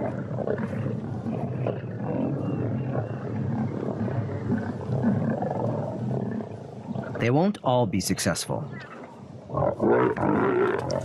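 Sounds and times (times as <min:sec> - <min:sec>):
lions growling: 0:00.0 - 0:07.2, 0:08.6 - 0:11.0.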